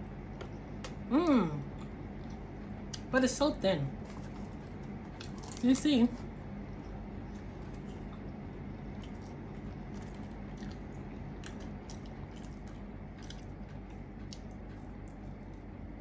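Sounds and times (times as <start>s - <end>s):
steady low hum: 0.0s - 16.0s
person chewing pizza: 0.4s - 3.1s, 4.0s - 16.0s.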